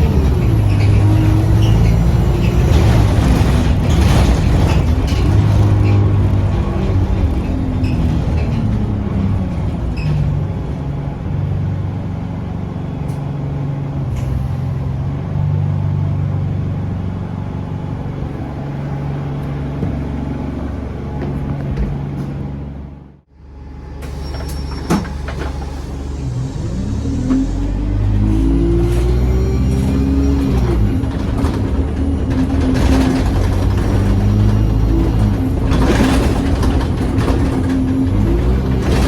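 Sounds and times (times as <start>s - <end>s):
bus engine droning: 0.0s - 39.0s.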